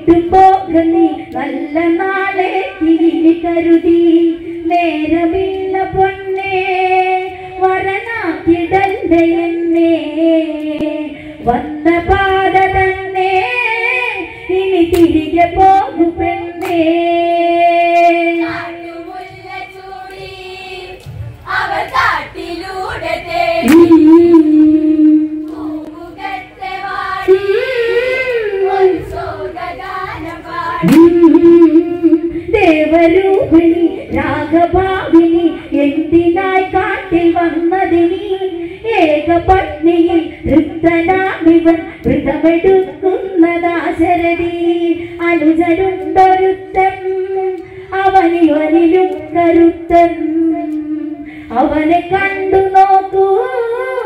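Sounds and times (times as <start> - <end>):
women and girls singing folk song: 0.0 - 54.0.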